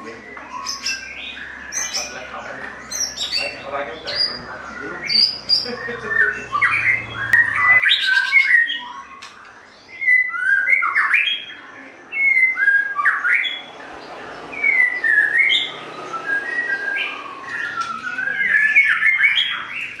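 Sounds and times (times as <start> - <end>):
bird singing whistled phrases: 0.2 - 13.7, 14.5 - 20.0.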